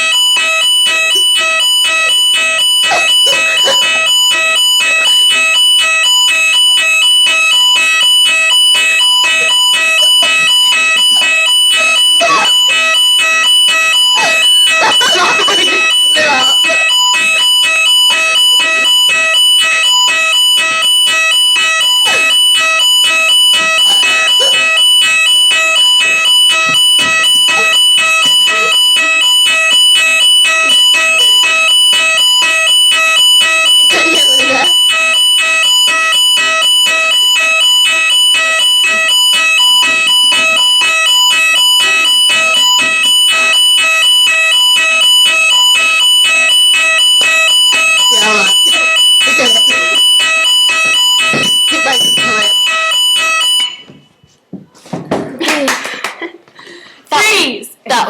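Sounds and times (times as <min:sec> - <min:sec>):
fire alarm pulsing tone: 0:00.0 - 0:54.4.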